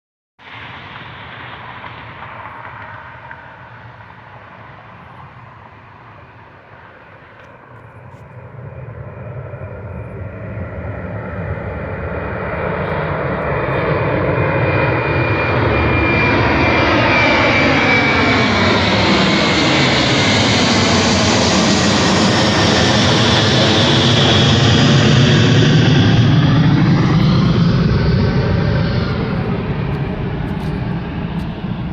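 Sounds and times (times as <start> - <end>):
jet airliner passing with whine: 0.4 - 31.9.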